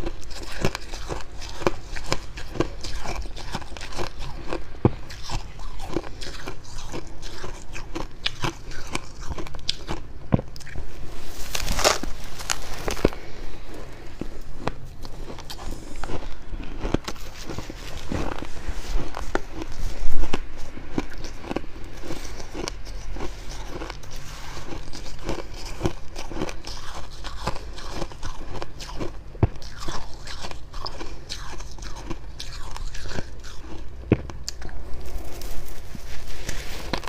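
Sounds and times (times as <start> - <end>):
chewing crunchy frost: 0.0 - 37.0.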